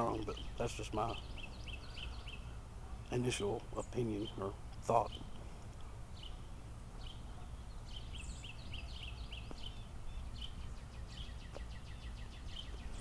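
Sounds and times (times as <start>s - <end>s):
low background rumble: 0.0s - 13.0s
small birds chirping: 0.0s - 13.0s.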